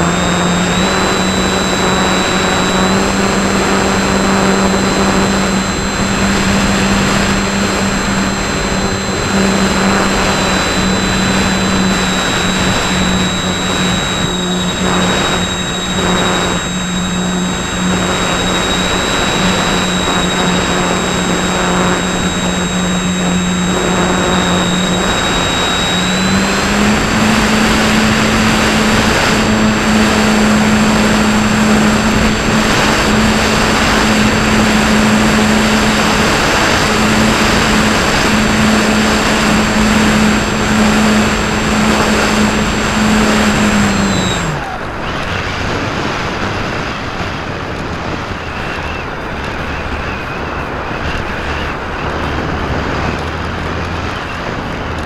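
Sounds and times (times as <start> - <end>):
electric motor hum and whine: 0.0 - 55.0
wind rush: 0.0 - 55.0.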